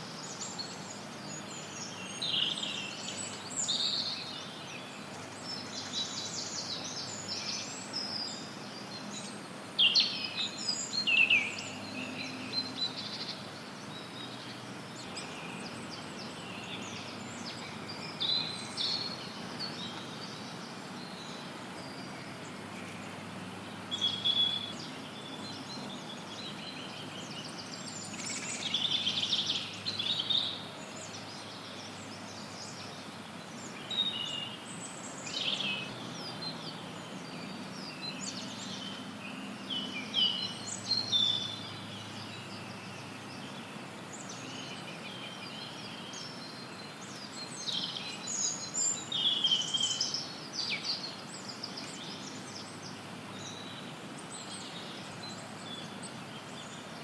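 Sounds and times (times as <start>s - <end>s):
songbirds chirping: 0.0s - 57.0s
white noise hiss: 0.0s - 57.0s.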